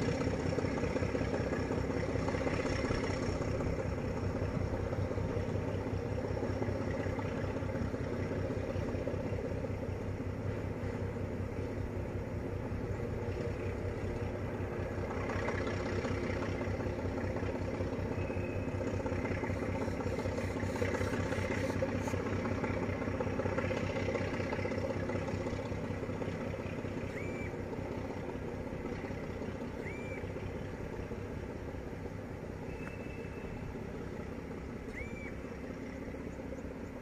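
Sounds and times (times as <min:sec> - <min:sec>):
diesel locomotive engine drone: 0:00.0 - 0:37.0.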